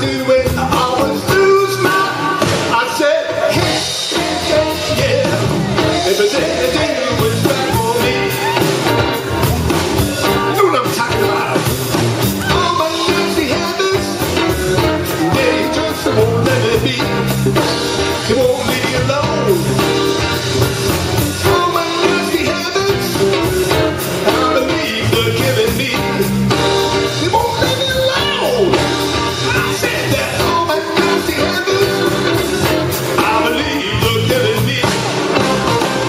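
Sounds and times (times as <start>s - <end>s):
blues band playing live: 0.0s - 36.0s.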